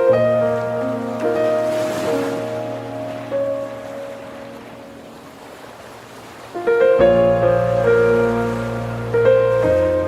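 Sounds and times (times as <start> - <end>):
piano music: 0.0 - 5.5, 6.5 - 10.0.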